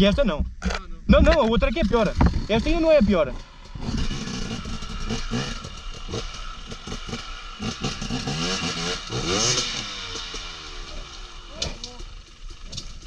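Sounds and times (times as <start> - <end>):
motorcycle engine revving: 1.1 - 13.0.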